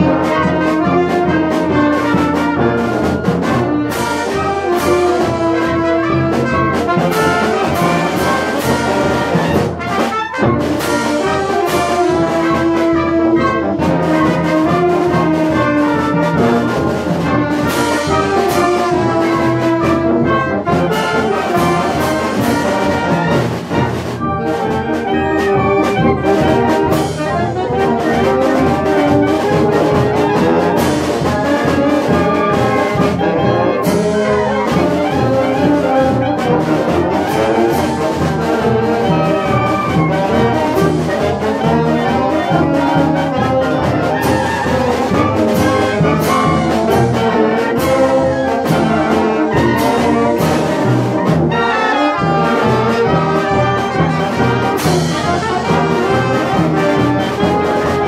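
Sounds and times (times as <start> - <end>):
concert band playing a march: 0.0 - 58.0.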